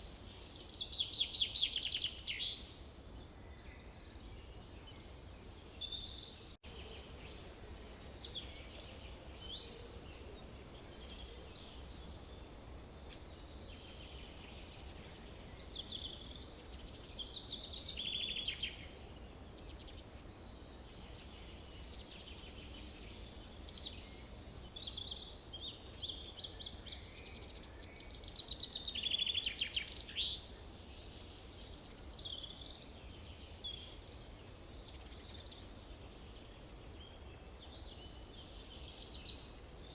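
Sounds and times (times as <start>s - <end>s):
steady low background noise: 0.0s - 39.9s.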